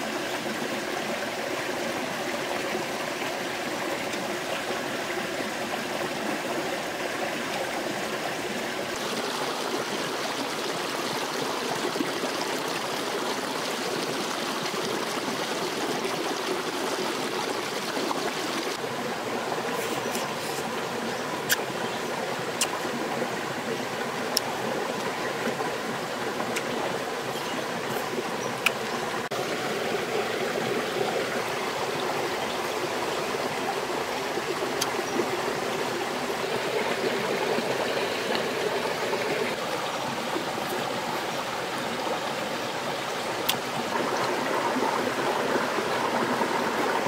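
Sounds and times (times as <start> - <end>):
stream running over rocks: 0.0 - 47.0.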